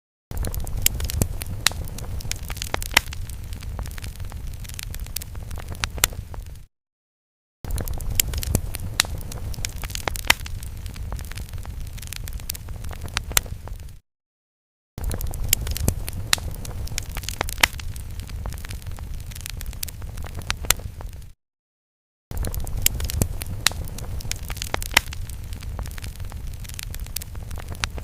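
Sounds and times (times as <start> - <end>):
fire crackles and pops: 0.3 - 6.7, 7.7 - 14.0, 15.0 - 21.4, 22.3 - 28.0
fire rumbling: 0.3 - 6.7, 7.7 - 14.0, 15.0 - 21.4, 22.3 - 28.0.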